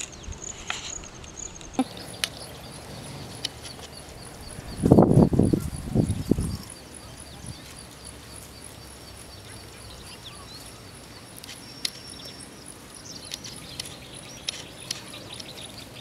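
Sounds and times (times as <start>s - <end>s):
steady high ticking: 1.8s - 16.0s.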